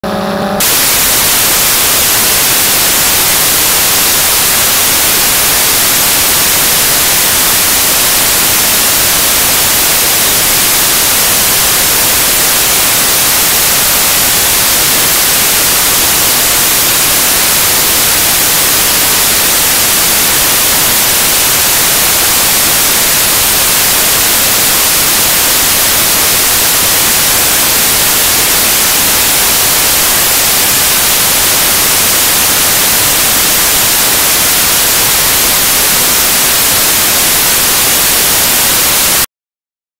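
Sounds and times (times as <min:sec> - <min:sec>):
electronic static hiss: 0:00.6 - 0:39.3.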